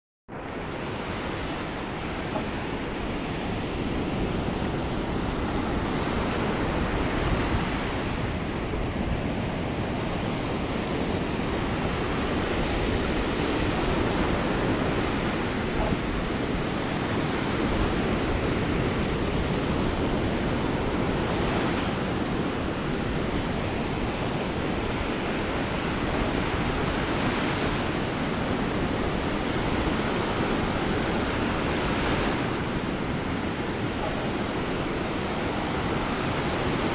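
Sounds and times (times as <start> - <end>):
surf washing on beach: 0.3 - 36.9
wind on microphone: 0.3 - 36.9.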